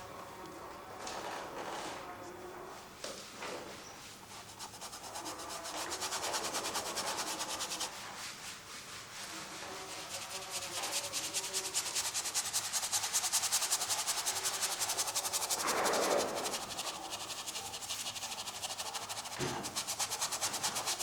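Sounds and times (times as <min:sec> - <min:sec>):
brush scrubbing paint on canvas: 0:03.2 - 0:21.0.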